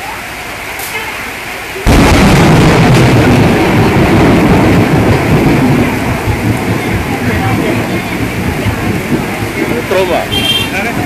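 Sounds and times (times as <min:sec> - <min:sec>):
heavy rain: 0:00.0 - 0:11.0
loud deep thunder rumble: 0:01.8 - 0:11.0.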